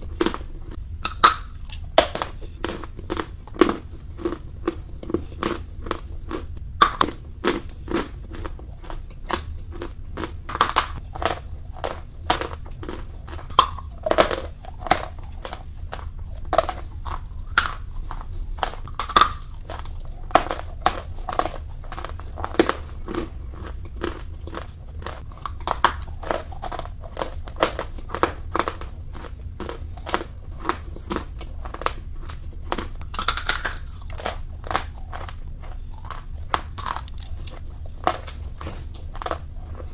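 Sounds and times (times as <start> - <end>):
chalk crunching while chewed: 0.0 - 39.9
faint low hum: 0.0 - 39.9.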